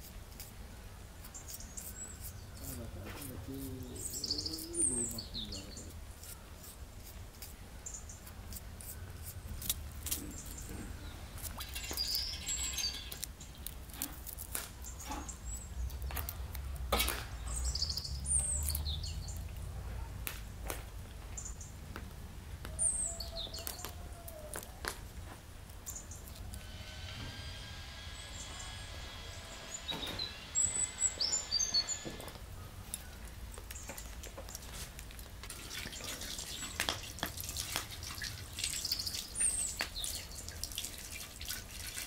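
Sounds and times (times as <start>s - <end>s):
small birds chirping: 0.0s - 20.4s, 21.3s - 24.9s, 25.7s - 26.5s, 28.2s - 34.8s, 35.5s - 42.0s.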